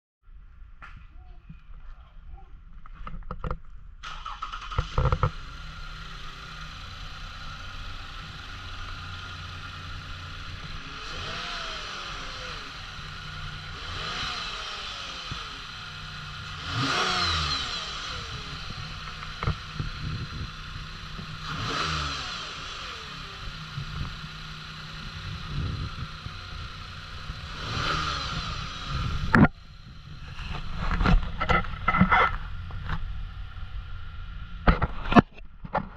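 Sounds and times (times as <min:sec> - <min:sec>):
engine revving: 0:04.0 - 0:35.1
car engine idling: 0:04.0 - 0:35.5
car engine starting: 0:04.0 - 0:35.9.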